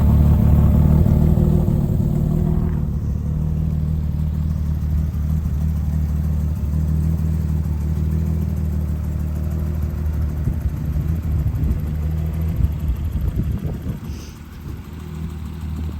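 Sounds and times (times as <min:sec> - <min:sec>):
car engine idling: 0:00.0 - 0:15.9
engine knocks: 0:00.0 - 0:15.9.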